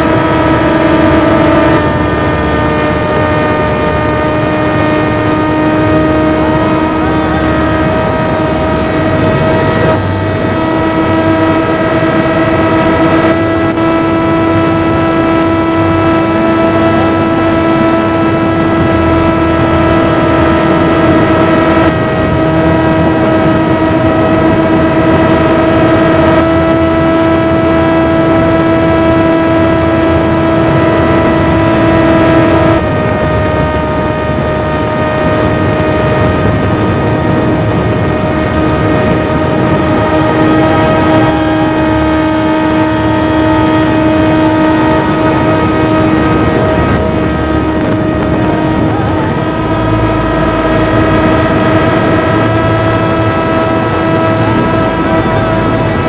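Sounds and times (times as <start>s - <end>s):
electric motor and propeller whine: 0.0s - 56.0s
rushing wind noise: 0.0s - 56.0s.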